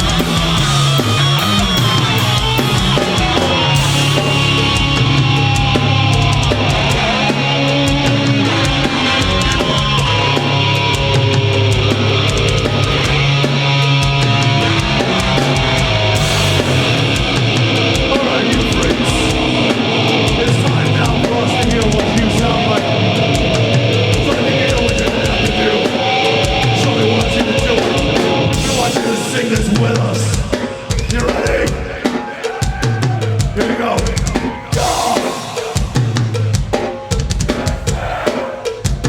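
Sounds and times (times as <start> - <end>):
heavy metal band playing live: 0.0 - 39.0.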